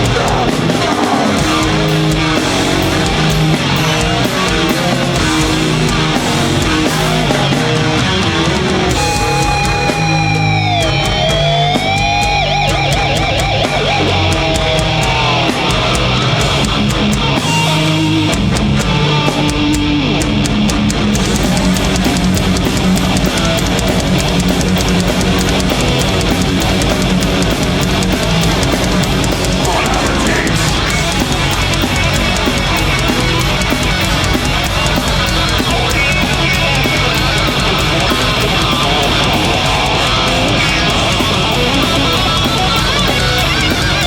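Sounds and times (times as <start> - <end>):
bass guitar: 0.0 - 44.0
distorted electric guitar riffs: 0.0 - 44.0
drum kit: 0.0 - 44.0.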